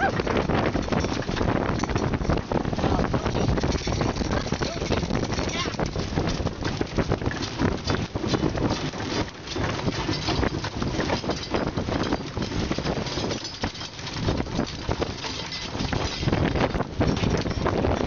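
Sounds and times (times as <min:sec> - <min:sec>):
boat engine running: 0:00.0 - 0:18.0
gusty wind: 0:00.0 - 0:18.0
knocks and clatter: 0:00.0 - 0:18.0.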